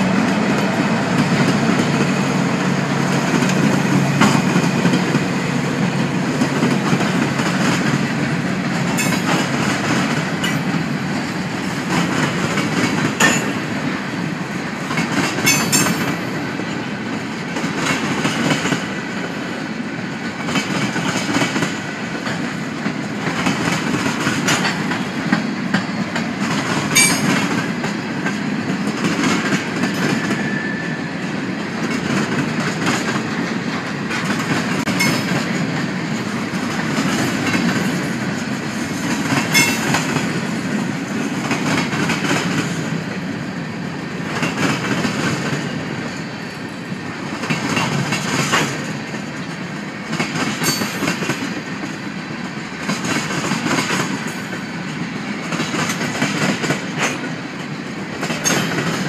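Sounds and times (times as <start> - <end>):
wheels clanking over rail joints: 0.0 - 43.2, 43.8 - 59.0
train wheels rumbling on rail: 0.0 - 59.0.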